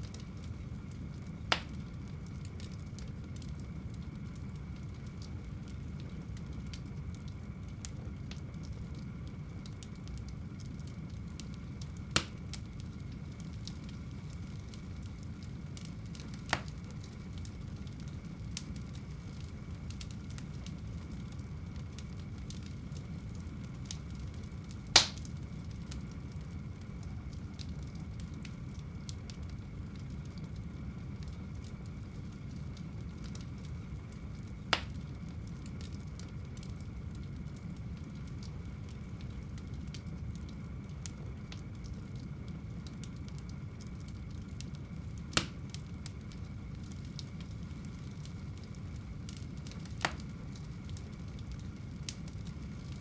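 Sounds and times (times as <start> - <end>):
fire crackling and popping: 0.0 - 53.0
fire flames rumbling: 0.0 - 53.0.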